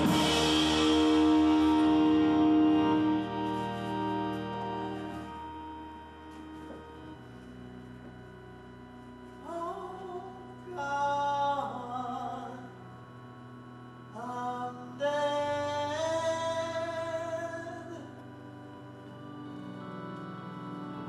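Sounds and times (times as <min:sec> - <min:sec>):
sustained instrumental backing: 0:00.0 - 0:11.9, 0:15.7 - 0:21.0.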